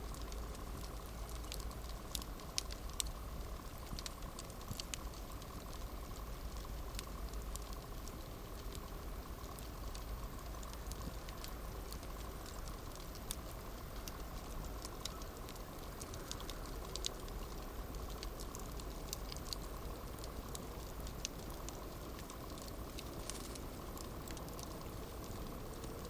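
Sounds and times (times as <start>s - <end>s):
campfire hissing: 0.0s - 26.0s
fire crackles and pops: 0.0s - 26.0s.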